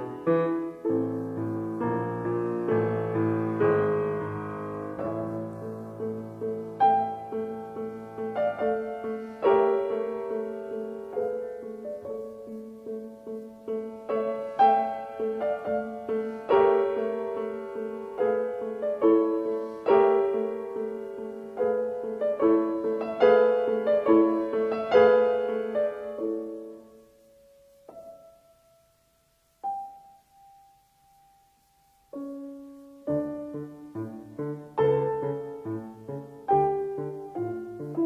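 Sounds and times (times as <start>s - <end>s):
slow piano melody: 0.0s - 38.0s.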